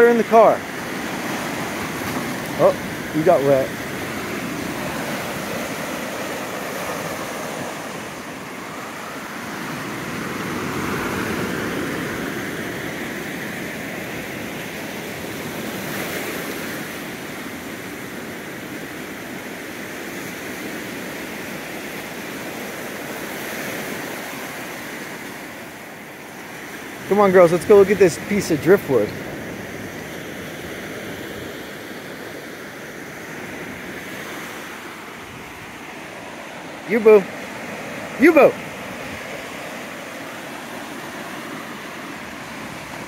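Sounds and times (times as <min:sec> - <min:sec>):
ocean surf washing ashore: 0:00.0 - 0:43.0.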